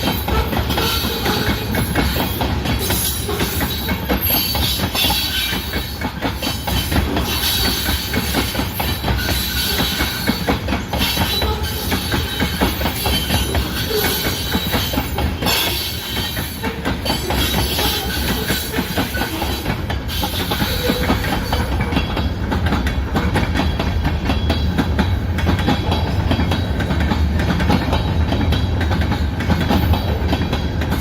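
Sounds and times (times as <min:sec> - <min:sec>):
train wheels clattering on rails: 0:00.0 - 0:31.0.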